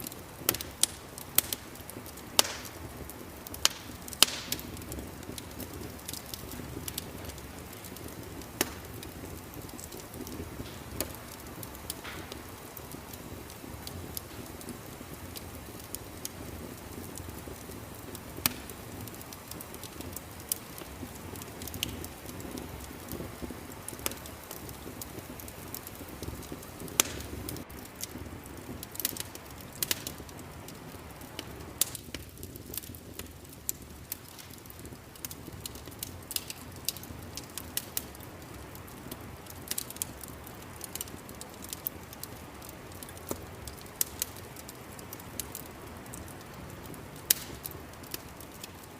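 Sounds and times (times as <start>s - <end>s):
fire popping: 0.0s - 48.9s
low rumble of burning logs: 0.0s - 48.9s.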